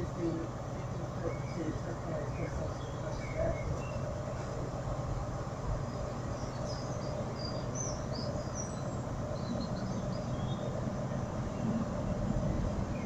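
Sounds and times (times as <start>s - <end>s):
birds chirping: 0.0s - 13.0s
diesel train engines idling: 0.0s - 13.0s.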